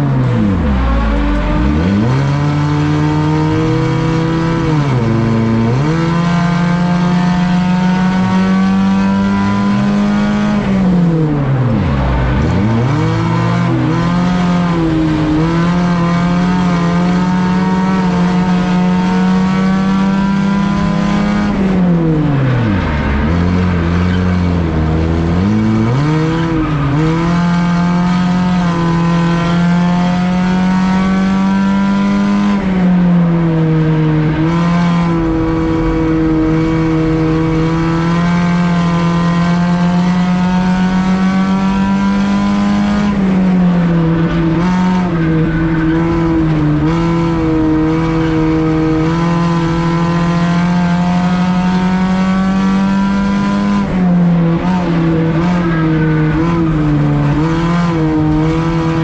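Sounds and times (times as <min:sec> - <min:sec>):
race car engine at high revs: 0:00.0 - 0:59.0
road and tyre noise: 0:00.0 - 0:59.0.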